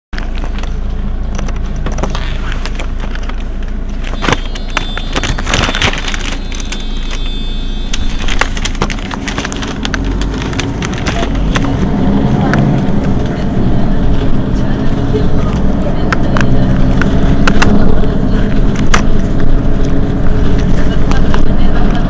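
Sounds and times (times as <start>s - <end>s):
bus engine idling: 0.2s - 22.0s.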